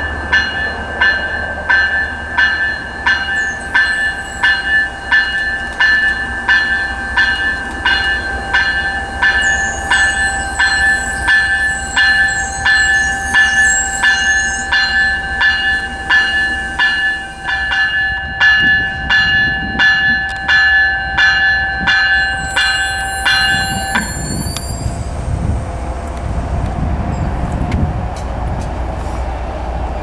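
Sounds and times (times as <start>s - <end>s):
railroad warning bell ringing: 0.0s - 30.0s
train rumble: 0.0s - 30.0s.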